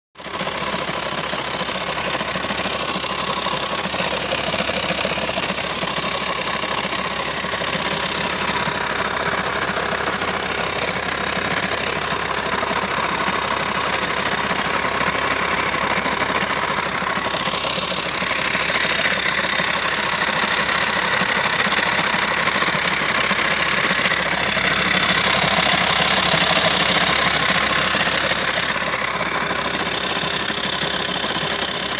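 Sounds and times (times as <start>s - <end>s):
diesel engine knocking and rattling: 0.2s - 31.9s.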